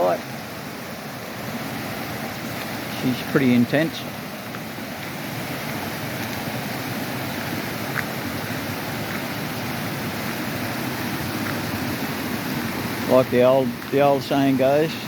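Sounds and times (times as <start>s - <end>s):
floodwater rushing down creek: 0.0s - 15.0s.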